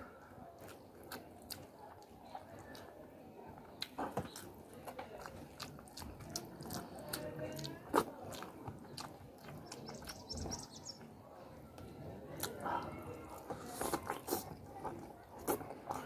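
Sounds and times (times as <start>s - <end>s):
chewing and wet mouth sounds: 0.2s - 16.0s.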